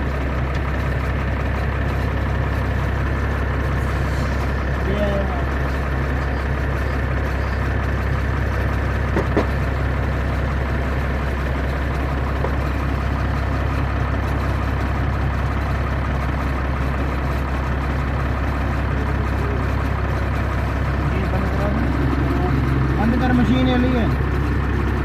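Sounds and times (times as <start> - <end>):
large engine idling: 0.0 - 25.0.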